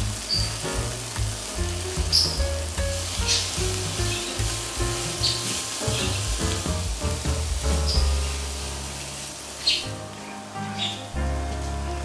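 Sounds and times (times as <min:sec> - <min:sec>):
background music with bass: 0:00.0 - 0:12.0
food sizzling in oil: 0:00.0 - 0:12.0.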